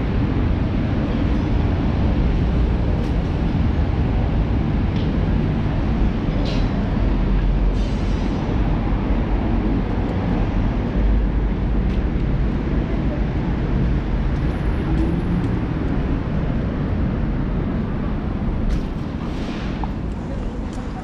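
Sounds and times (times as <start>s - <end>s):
low rumbling street noise: 0.0s - 21.0s.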